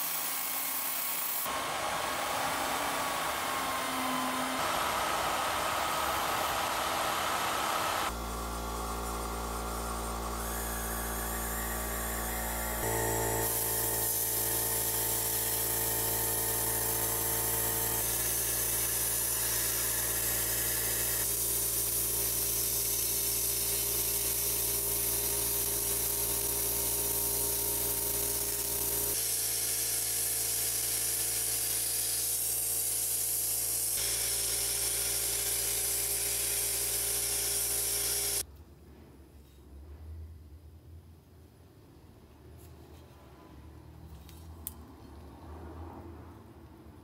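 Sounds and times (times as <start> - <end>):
sandblasting gun hissing: 0.0 - 38.4.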